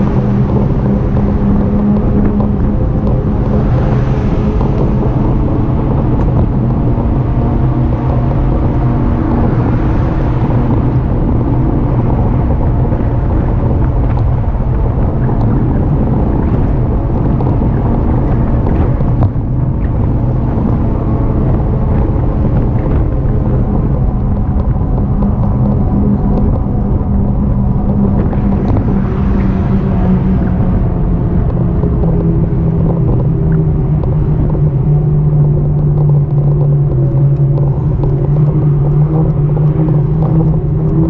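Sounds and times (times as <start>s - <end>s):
e-bike riding rumble and hum: 0.0s - 41.0s.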